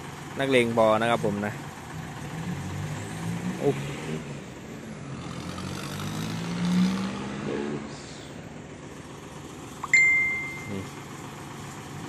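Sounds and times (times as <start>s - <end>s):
vehicle engine running: 0.0s - 6.4s, 7.8s - 12.0s.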